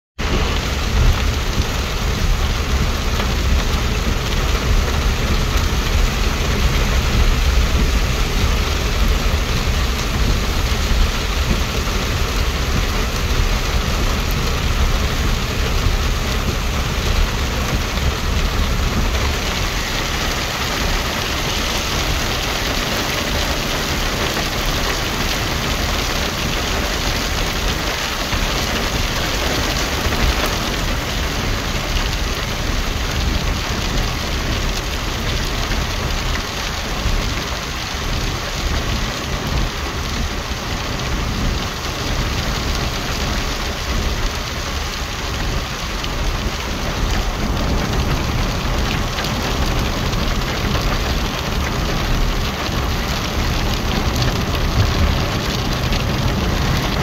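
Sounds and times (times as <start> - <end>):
heavy rain on a car: 0.2 - 57.0
low road rumble: 0.2 - 57.0.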